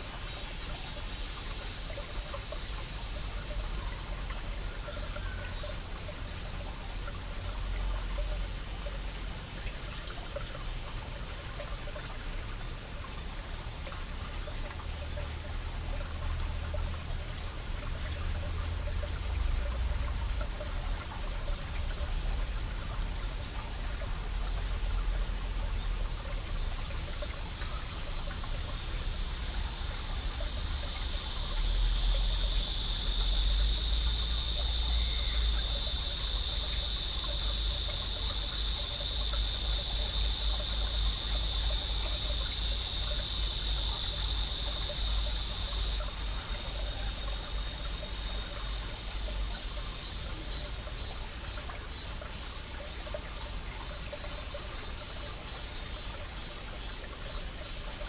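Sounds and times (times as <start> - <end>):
cicadas droning chorus: 0.0 - 58.0
high-pitched cicada: 0.0 - 58.0
stream trickling over rocks: 0.0 - 58.0.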